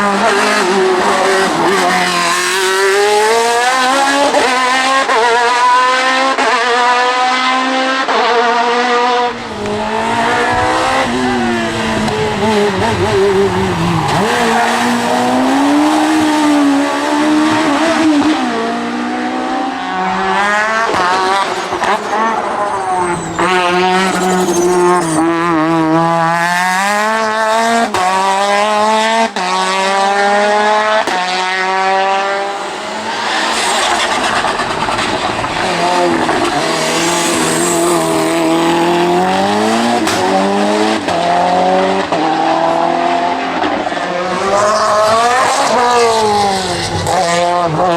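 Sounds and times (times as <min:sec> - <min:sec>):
race car engine at full throttle: 0:00.0 - 0:47.9.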